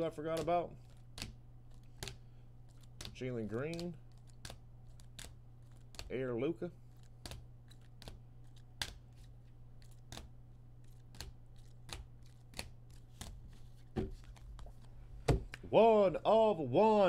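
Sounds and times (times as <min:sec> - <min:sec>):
cards shuffling with clicks: 0:00.0 - 0:06.2, 0:06.8 - 0:15.7
steady low hum: 0:00.0 - 0:17.0.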